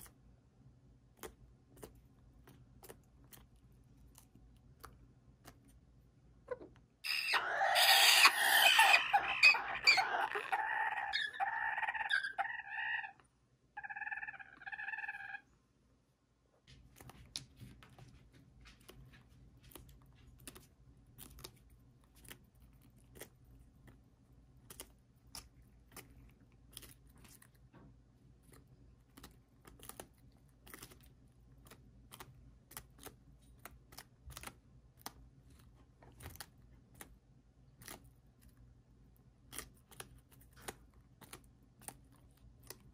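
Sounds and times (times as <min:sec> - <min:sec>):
beaks pecking cabbage leaves: 0:01.1 - 0:15.4, 0:16.7 - 0:42.9.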